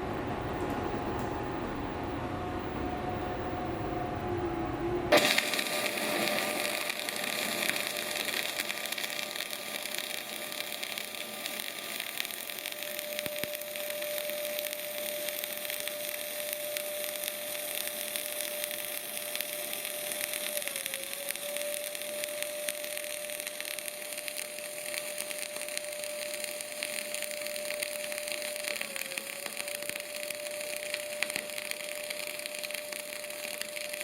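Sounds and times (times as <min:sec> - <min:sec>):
faint steady whine: 0:00.0 - 0:34.0
welding arc crackling: 0:05.1 - 0:34.0.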